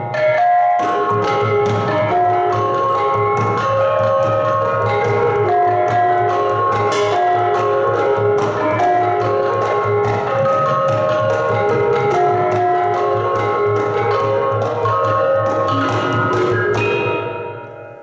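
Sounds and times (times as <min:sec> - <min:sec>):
gamelan ensemble playing: 0:00.0 - 0:18.0.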